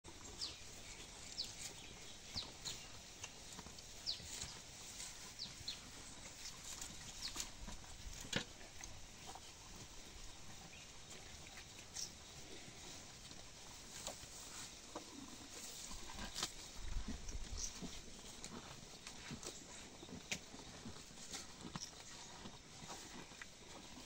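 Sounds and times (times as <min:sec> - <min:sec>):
faint small birds chirping: 0:00.1 - 0:07.9, 0:08.7 - 0:13.0, 0:14.8 - 0:24.0.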